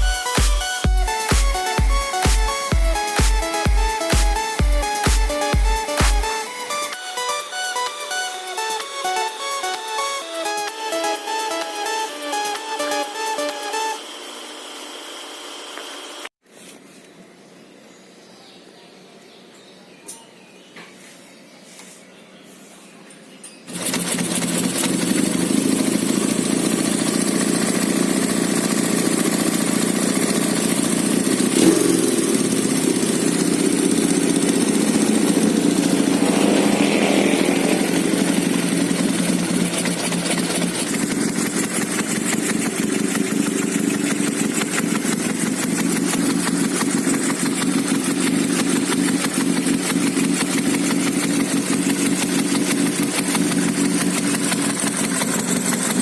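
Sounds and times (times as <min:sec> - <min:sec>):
motorcycle engine running: 0:00.0 - 0:16.3, 0:23.6 - 0:56.0.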